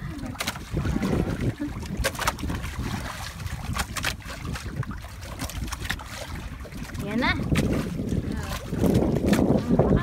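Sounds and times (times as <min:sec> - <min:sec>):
choppy sea: 0:00.0 - 0:10.0
wind buffeting microphone: 0:00.0 - 0:10.0.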